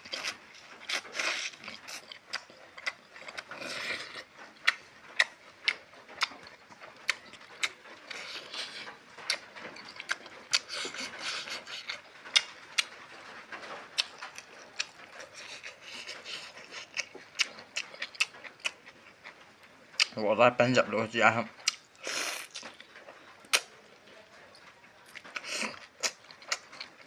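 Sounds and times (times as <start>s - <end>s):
wet chewing and lip-smacking: 0.0s - 13.0s, 13.9s - 19.4s, 21.6s - 23.8s, 24.6s - 27.0s.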